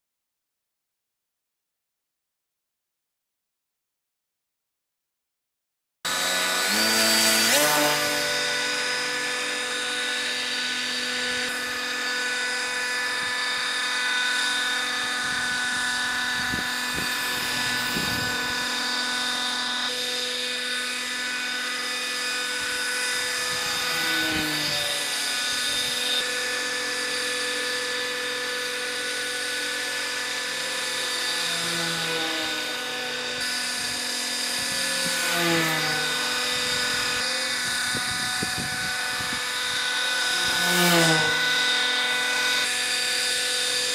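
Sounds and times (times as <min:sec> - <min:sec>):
model plane electric motor whining: 0:06.1 - 0:43.9.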